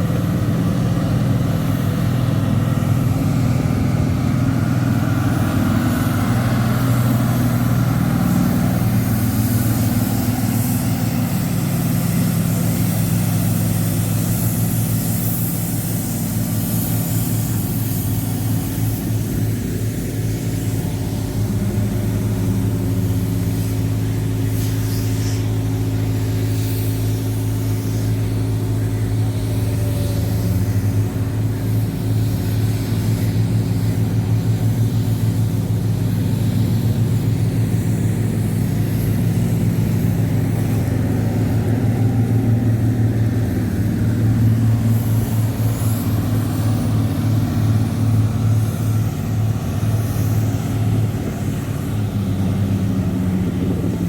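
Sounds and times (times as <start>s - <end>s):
road roller diesel engine running: 0.0s - 54.0s.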